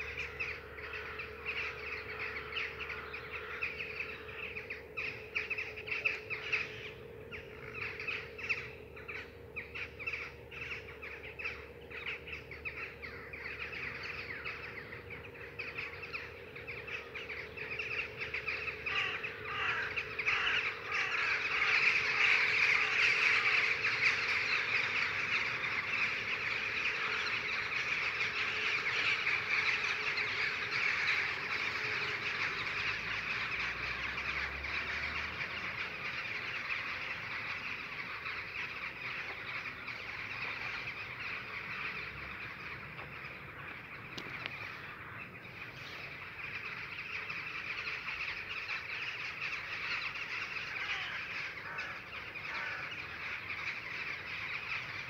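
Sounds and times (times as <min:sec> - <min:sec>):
flock of birds calling: 0:00.0 - 0:55.0.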